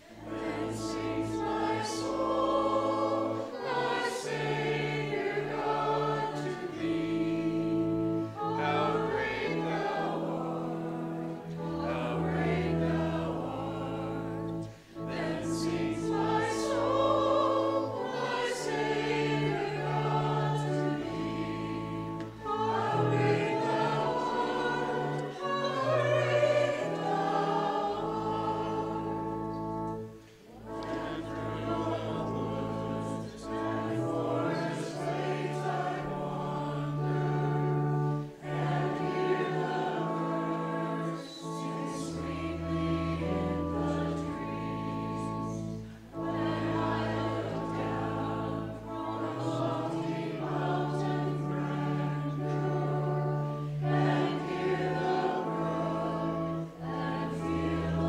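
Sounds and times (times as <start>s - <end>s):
choir and congregation singing hymn: 0.0s - 58.0s.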